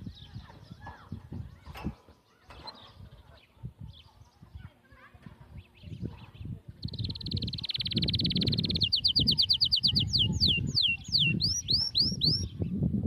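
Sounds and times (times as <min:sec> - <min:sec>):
songbird singing: 0:00.0 - 0:12.9.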